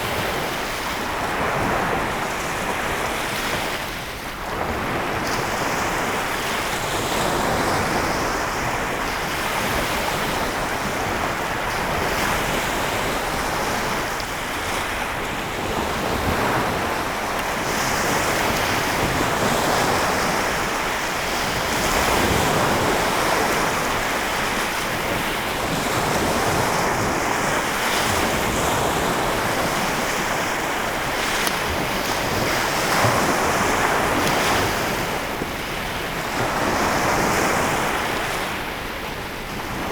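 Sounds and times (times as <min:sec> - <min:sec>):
waves washing on shore: 0:00.0 - 0:39.9.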